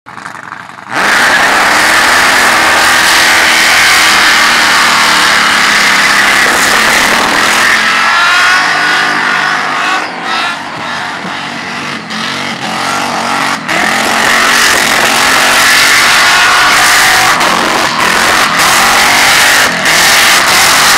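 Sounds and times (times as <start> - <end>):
engine at high revs: 0.2 - 20.9
tyres screeching: 0.9 - 20.9.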